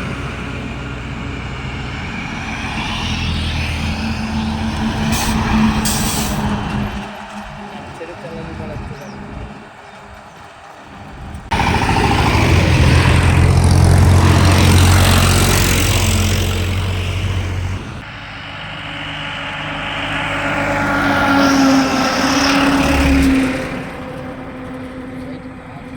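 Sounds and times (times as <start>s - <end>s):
heavy vehicles passing: 0.0s - 25.9s.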